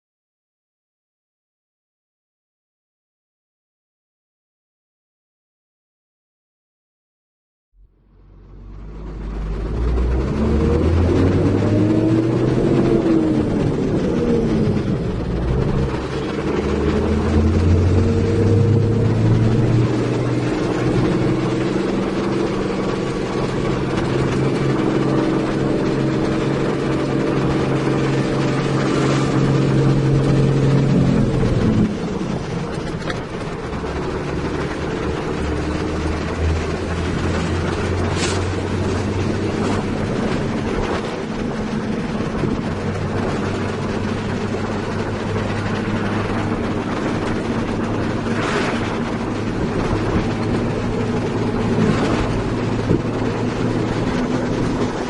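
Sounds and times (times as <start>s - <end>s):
heavy diesel engine running: 7.9s - 55.0s.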